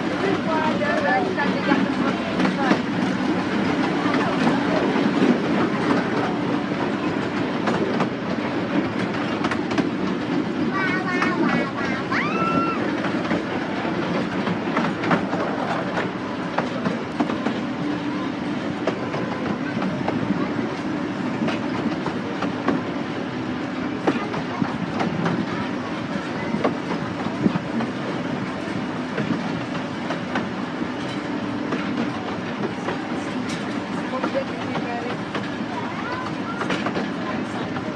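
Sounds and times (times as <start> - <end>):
rail joint clicks: 0.0 - 37.9
train wheels rumbling: 0.0 - 37.9.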